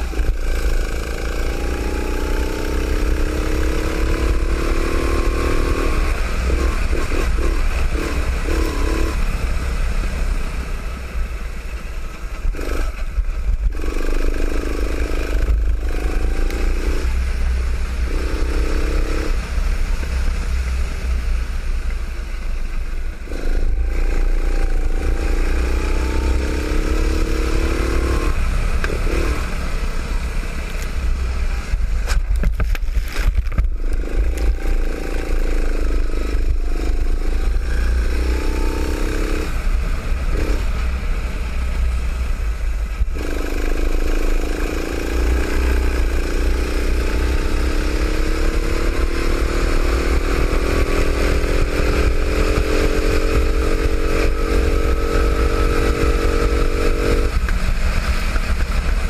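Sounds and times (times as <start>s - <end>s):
constant low rumble: 0.0s - 59.0s
go-kart engine running hard: 0.0s - 59.0s.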